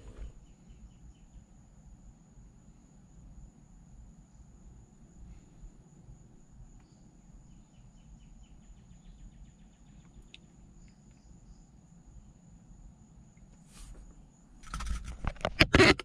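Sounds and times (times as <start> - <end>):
soft insect chirps: 0.2 - 15.4.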